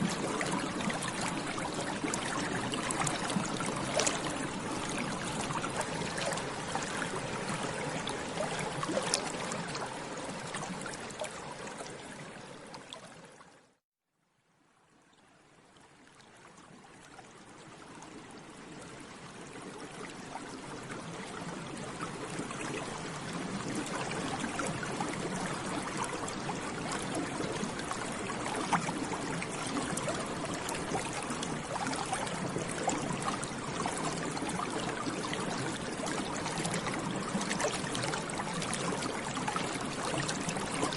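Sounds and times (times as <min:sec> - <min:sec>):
bubbles burbling through water: 0:00.0 - 0:12.0, 0:19.7 - 0:40.9.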